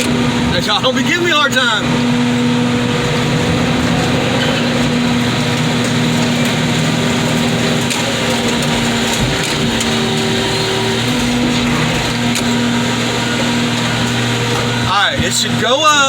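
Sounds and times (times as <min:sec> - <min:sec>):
engine and hydraulic pump humming: 0:00.0 - 0:16.0.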